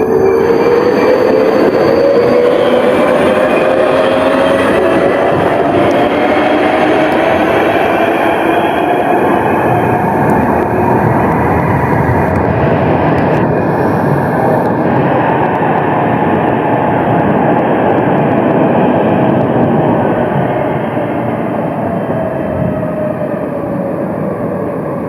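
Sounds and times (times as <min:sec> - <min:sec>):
tram rolling on rails: 0:00.0 - 0:25.0.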